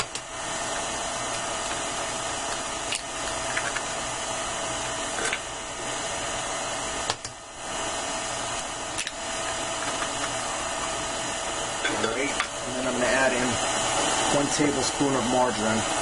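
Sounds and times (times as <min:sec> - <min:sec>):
stand mixer running: 0:00.0 - 0:16.0.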